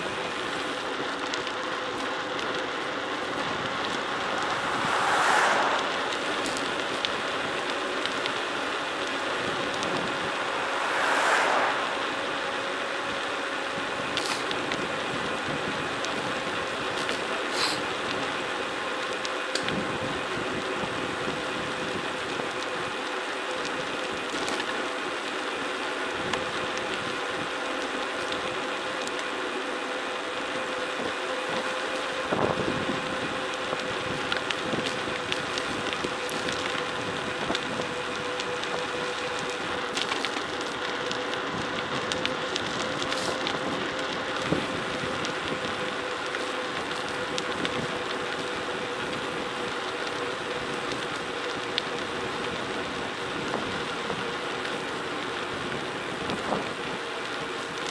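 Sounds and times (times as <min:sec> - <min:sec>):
bike tyres rolling on gravel: 0:00.0 - 0:57.9
constant hum: 0:00.0 - 0:57.9.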